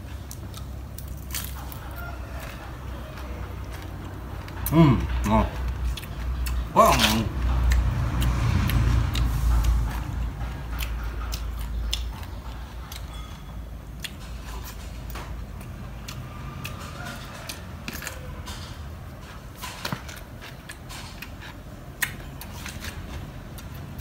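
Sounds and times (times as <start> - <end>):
crunchy biting and chewing: 0.0 - 24.0.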